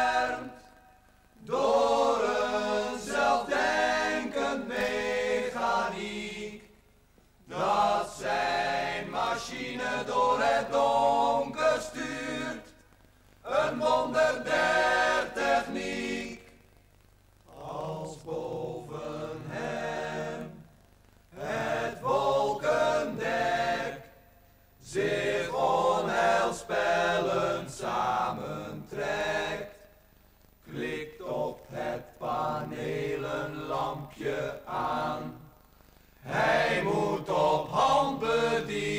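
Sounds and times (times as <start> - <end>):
men singing unaccompanied: 0.0 - 0.8, 1.4 - 6.7, 7.5 - 12.8, 13.4 - 16.5, 17.5 - 20.7, 21.4 - 24.2, 24.8 - 29.9, 30.6 - 35.6, 36.2 - 38.9.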